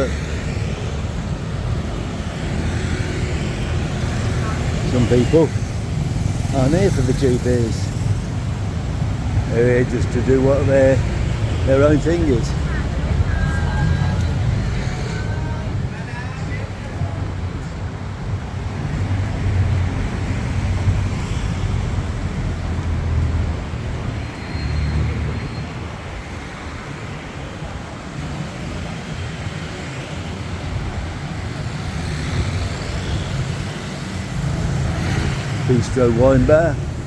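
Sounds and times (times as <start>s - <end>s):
passing vehicles rumbling: 0.0s - 37.0s.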